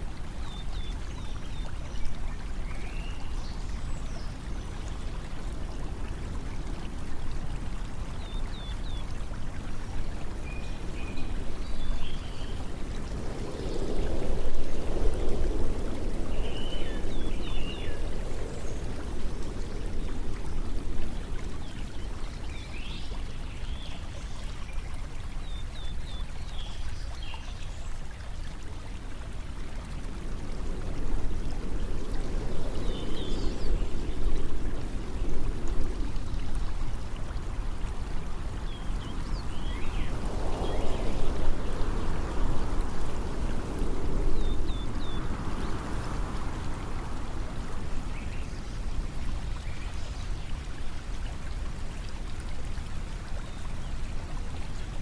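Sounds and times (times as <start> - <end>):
water flowing: 0.0 - 55.0.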